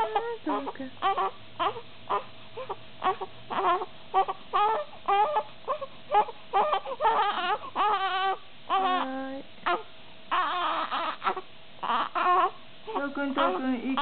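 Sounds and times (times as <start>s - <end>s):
baby crying: 0.0s - 14.0s.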